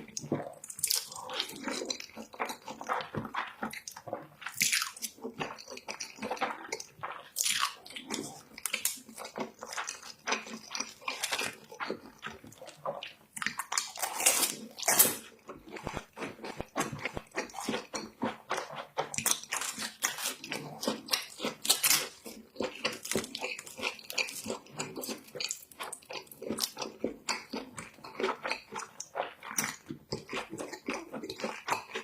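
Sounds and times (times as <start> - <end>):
chewing crunchy fried food: 0.0 - 32.0.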